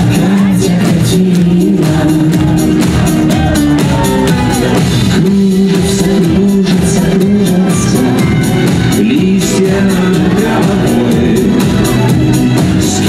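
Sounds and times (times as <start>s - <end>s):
drum kit beat: 0.0s - 13.0s
guitar: 0.0s - 13.0s
pop-rock band playing: 0.0s - 13.0s.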